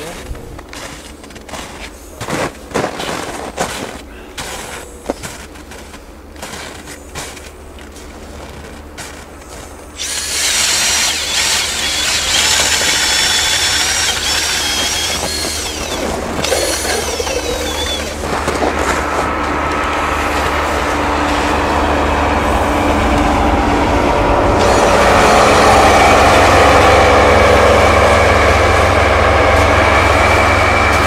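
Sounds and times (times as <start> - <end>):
hovercraft engine whining: 0.0 - 31.0.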